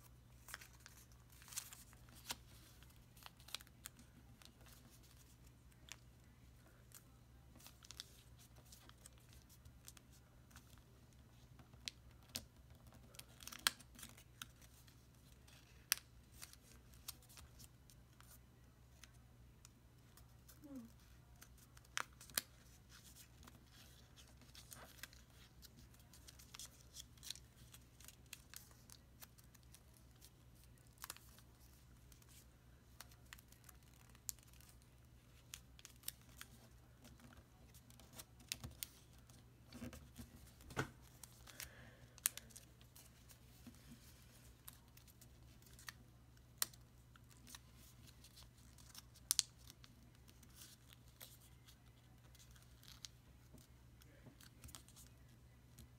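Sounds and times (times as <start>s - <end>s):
paper crinkling: 0.0s - 19.2s, 20.0s - 55.9s
low steady hum: 0.0s - 55.9s.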